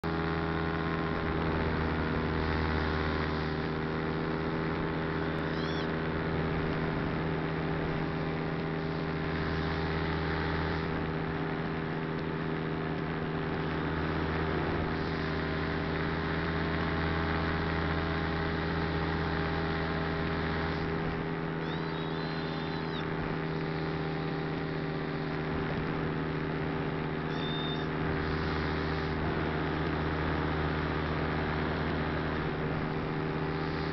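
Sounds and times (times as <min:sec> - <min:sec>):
model aircraft motor whine: 0:00.0 - 0:33.9.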